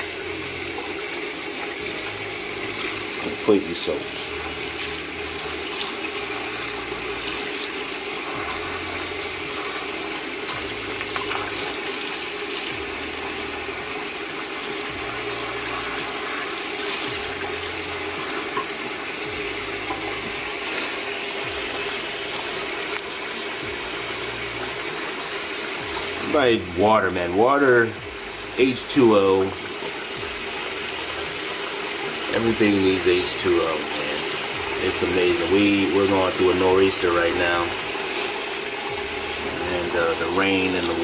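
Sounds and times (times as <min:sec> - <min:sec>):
water pouring: 0:00.0 - 0:41.0.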